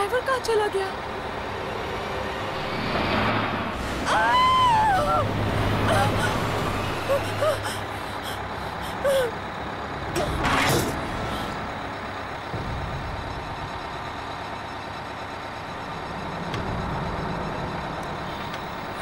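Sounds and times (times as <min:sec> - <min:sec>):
bus engine idling: 0:00.0 - 0:19.0.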